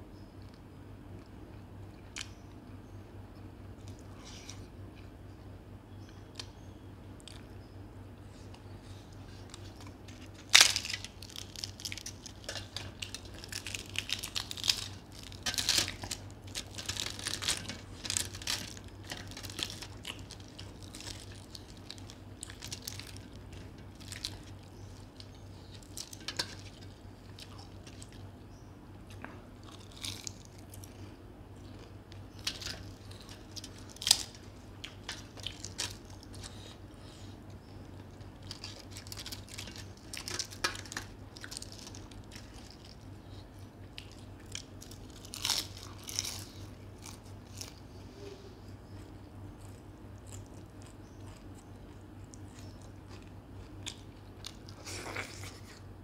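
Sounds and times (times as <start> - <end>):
man chewing food: 0.2 - 7.6, 8.2 - 56.0.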